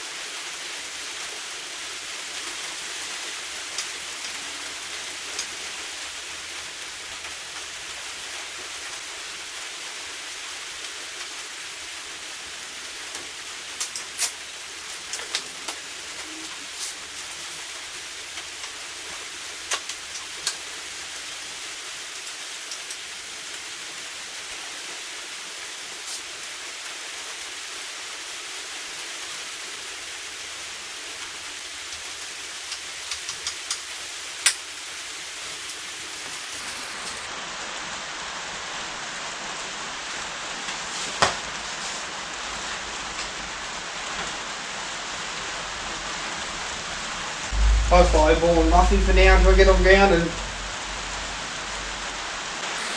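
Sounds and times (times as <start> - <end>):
rain hissing: 0.0 - 52.9.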